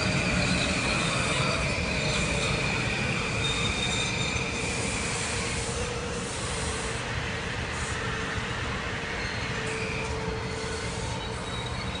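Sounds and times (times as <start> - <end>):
train cars rumbling: 0.0 - 12.0
train wheels squealing: 0.0 - 12.0.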